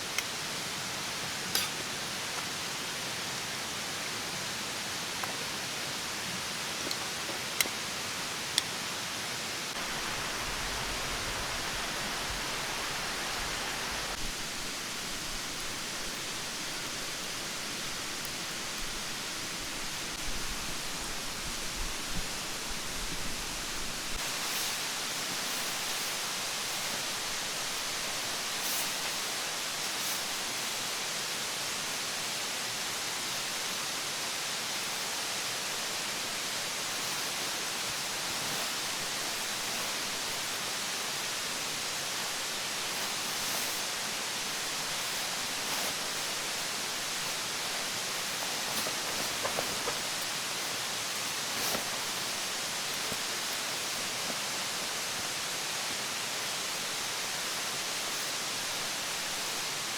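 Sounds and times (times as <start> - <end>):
stream water rushing: 0.0 - 14.6, 24.2 - 59.9.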